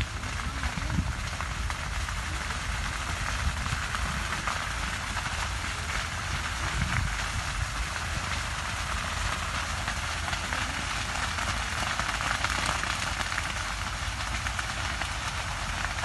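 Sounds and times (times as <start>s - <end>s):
burning field crackling: 0.0s - 16.0s.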